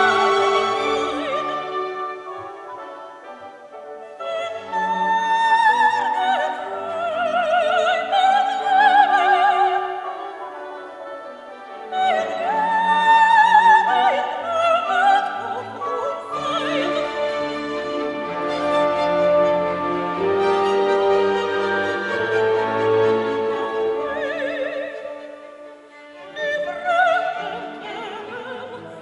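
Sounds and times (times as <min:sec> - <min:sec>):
operatic soprano singing: 0:00.0 - 0:29.0
orchestral strings: 0:00.0 - 0:29.0.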